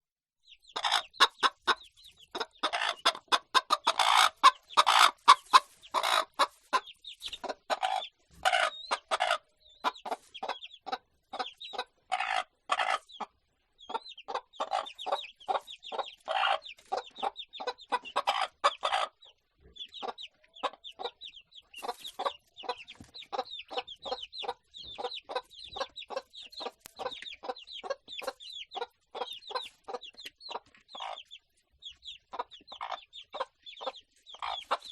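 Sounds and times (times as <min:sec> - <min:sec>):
chickens clucking: 0:00.4 - 0:34.9.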